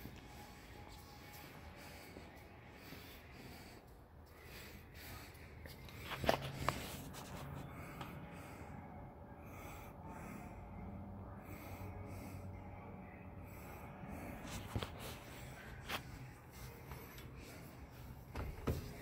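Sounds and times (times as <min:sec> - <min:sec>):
faint low hum: 0:00.0 - 0:19.0
soft breathing: 0:00.0 - 0:19.0.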